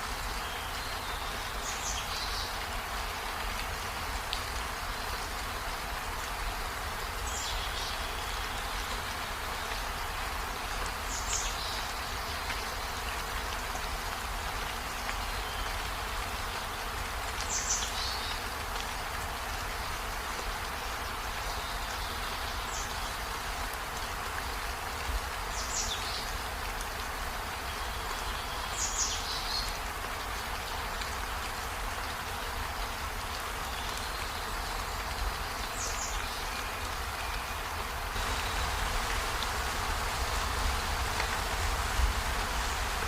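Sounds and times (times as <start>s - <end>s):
steady rain: 0.0s - 43.0s.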